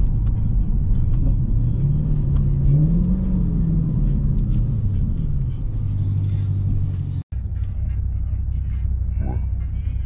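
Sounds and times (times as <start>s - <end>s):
car engine droning from cabin: 0.0s - 10.0s.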